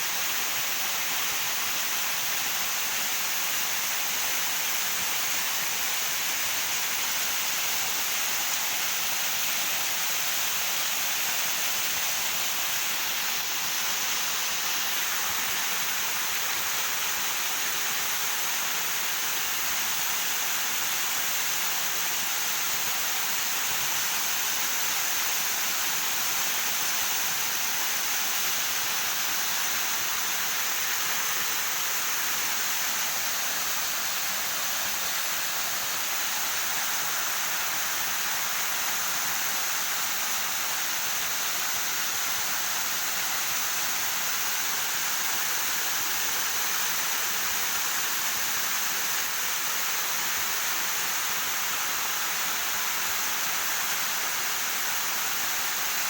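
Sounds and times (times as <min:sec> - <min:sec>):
waterfall rushing: 0:02.7 - 0:56.0.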